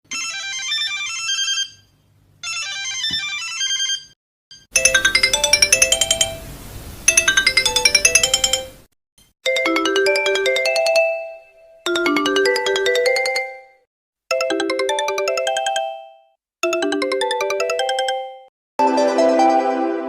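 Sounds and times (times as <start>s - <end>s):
high electronic ringtone melody: 0.1s - 6.5s, 7.1s - 8.9s, 9.5s - 20.0s
ringtone with bass line: 2.5s - 6.5s, 7.1s - 8.8s, 9.5s - 19.9s.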